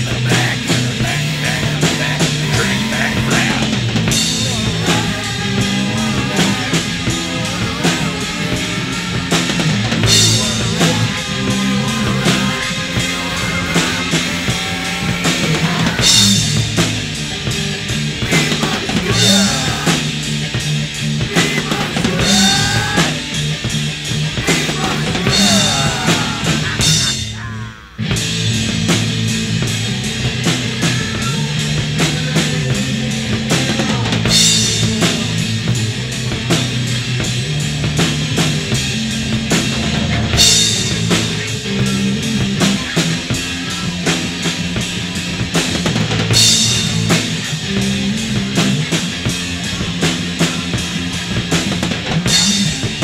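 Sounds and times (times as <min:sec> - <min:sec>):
drum kit beat: 0:00.0 - 0:53.0
rock band playing: 0:00.0 - 0:53.0.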